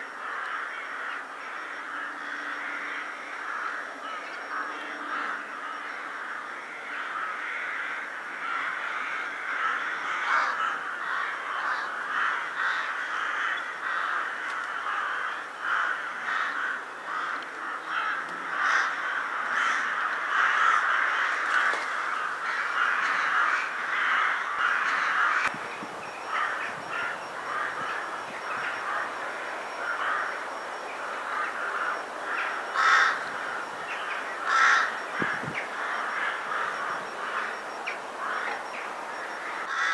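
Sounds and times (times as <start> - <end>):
rooks cawing: 0.1 - 25.5, 26.1 - 39.9.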